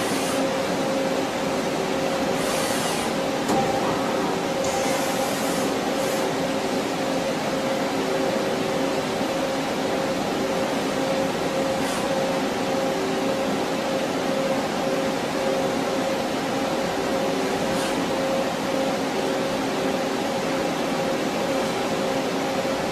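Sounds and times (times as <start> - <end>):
lathe machine hum: 0.0 - 22.9.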